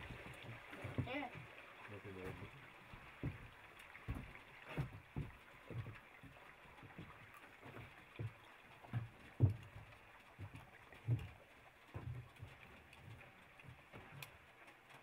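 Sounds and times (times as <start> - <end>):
footsteps on wooden dock: 0.0 - 1.6, 2.2 - 15.0.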